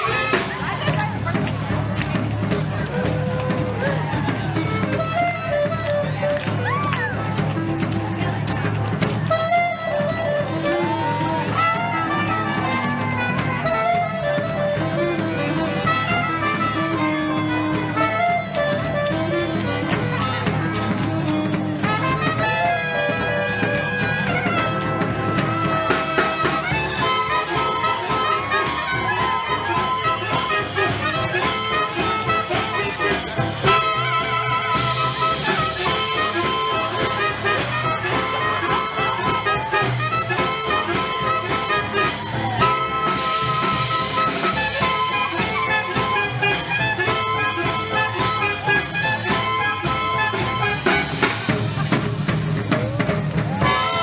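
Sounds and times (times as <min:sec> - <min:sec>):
swing jazz band: 0:00.0 - 0:54.0.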